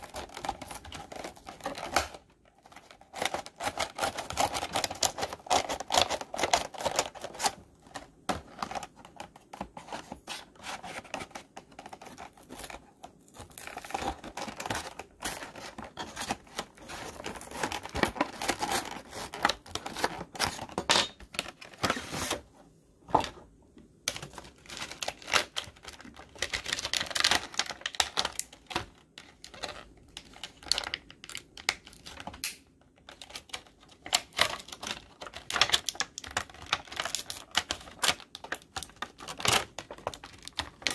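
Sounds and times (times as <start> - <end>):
plastic packaging crackling: 0.0 - 22.4, 24.1 - 40.9.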